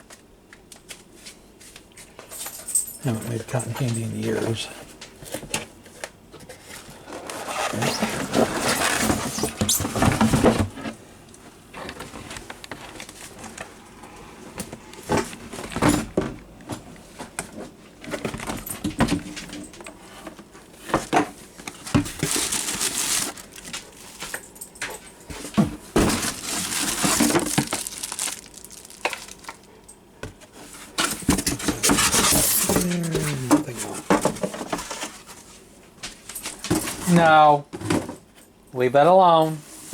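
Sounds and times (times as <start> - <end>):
cardboard and plastic rustling: 3.1 - 13.8, 14.4 - 38.4.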